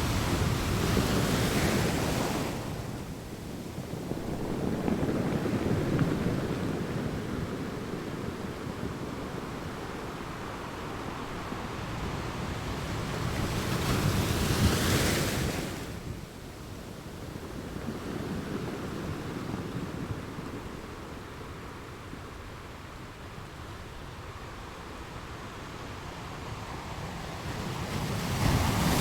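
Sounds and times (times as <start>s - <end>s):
ocean surf washing: 0.0s - 29.0s.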